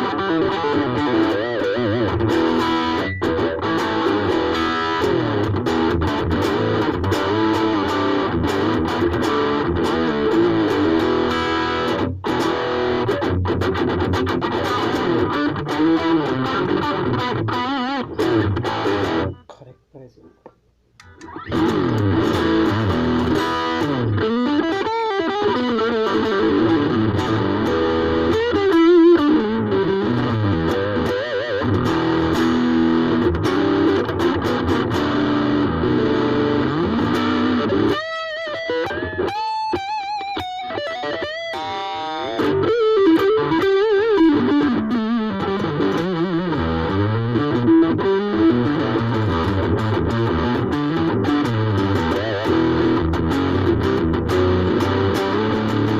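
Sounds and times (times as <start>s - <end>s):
electric guitar through amp: 0.0s - 19.6s, 21.0s - 55.9s.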